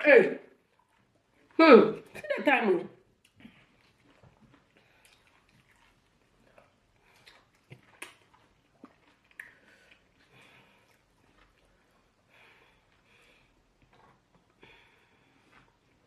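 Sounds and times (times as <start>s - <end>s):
soft chewing and mouth noises: 0.4s - 2.3s, 3.0s - 16.0s.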